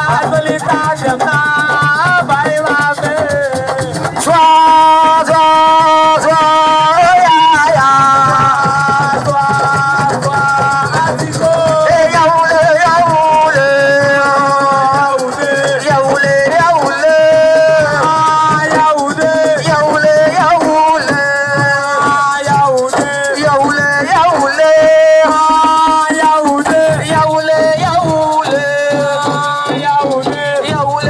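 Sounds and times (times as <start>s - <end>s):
drums: 0.0s - 31.0s
shaken rattle: 0.0s - 31.0s.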